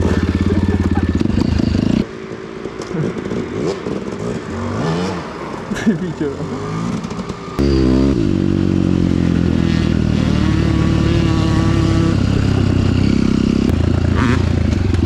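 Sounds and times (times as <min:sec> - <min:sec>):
motorcycle engine running under load: 0:00.0 - 0:04.4, 0:07.0 - 0:15.0.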